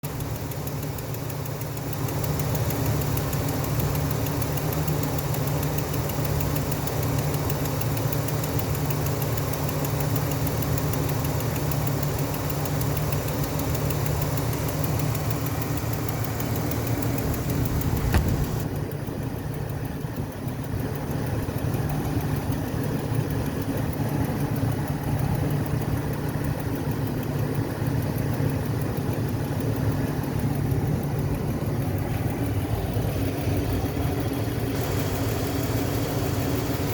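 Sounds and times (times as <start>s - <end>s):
engine knock: 0.0s - 36.9s
fast regular clicking: 0.0s - 36.9s
vehicle engine idling: 0.0s - 36.9s.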